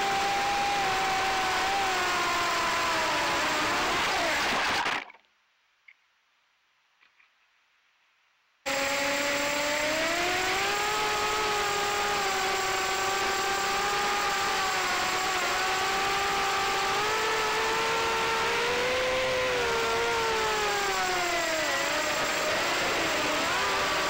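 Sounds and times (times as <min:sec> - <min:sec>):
quadcopter motors whining: 0:00.0 - 0:04.8, 0:08.7 - 0:24.0.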